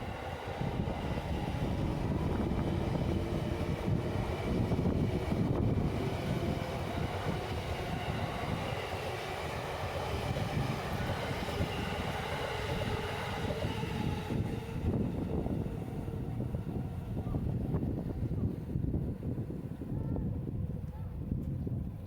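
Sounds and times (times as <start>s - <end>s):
wheels rumbling on rail: 0.0s - 22.0s.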